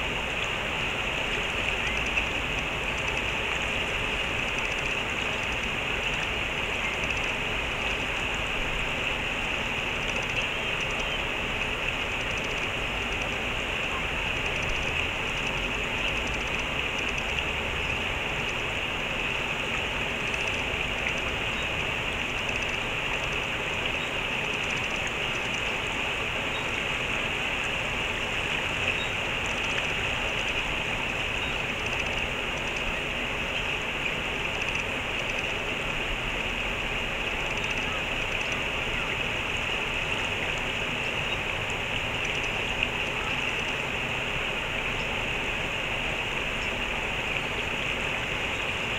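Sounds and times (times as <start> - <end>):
stream rushing: 0.0 - 48.9.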